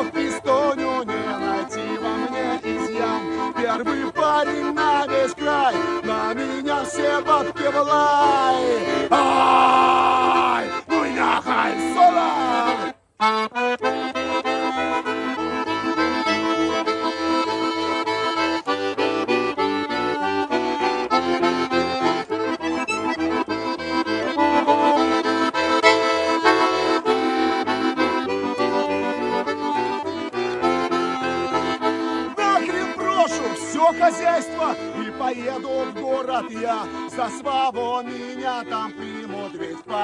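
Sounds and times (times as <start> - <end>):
button accordion solo: 0.0 - 40.0.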